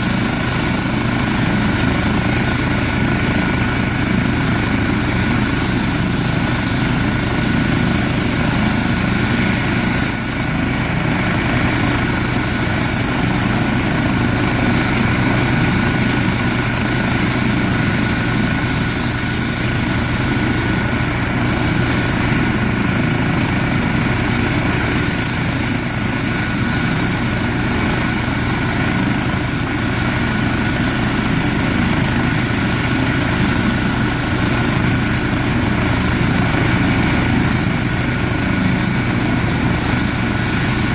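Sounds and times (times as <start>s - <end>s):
helicopter rotor rumble: 0.0s - 40.9s
helicopter turbine whine: 0.0s - 40.9s.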